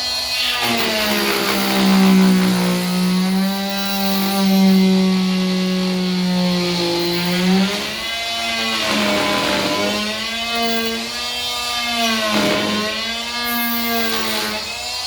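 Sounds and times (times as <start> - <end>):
electric power saw cutting: 0.0 - 15.0.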